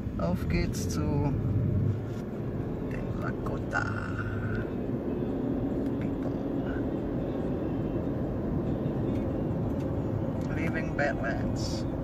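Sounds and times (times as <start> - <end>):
engine and tyre rumble on road: 0.0 - 12.0.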